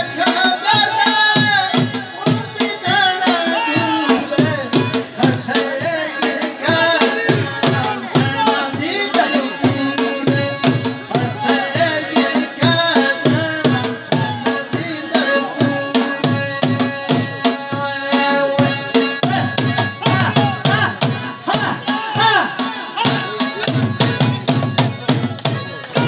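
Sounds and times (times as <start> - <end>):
dhol drum beating: 0.0 - 26.0.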